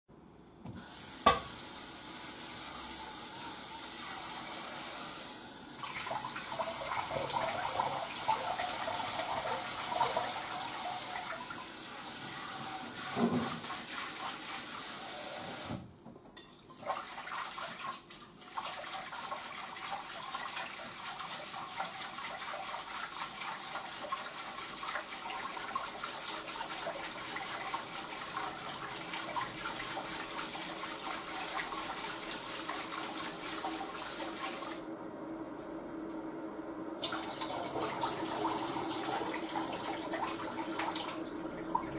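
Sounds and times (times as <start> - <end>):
tap water running into pot: 0.7 - 5.2, 5.8 - 14.6, 18.5 - 34.8, 37.0 - 41.9.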